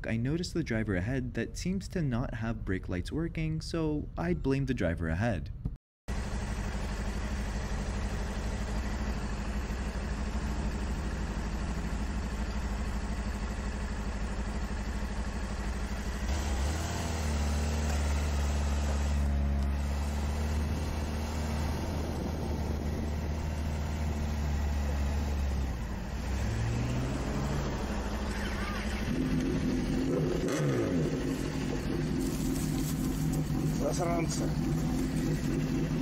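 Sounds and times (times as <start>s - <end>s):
motorcycle engine: 6.1s - 36.0s.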